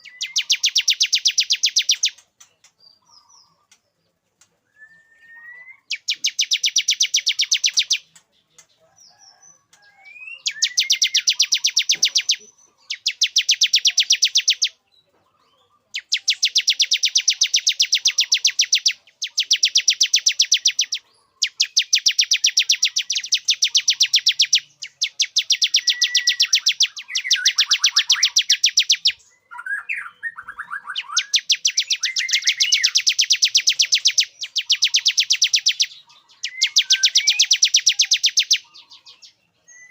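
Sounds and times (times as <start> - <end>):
bird fast trilling song: 0.0 - 3.8, 4.7 - 39.9.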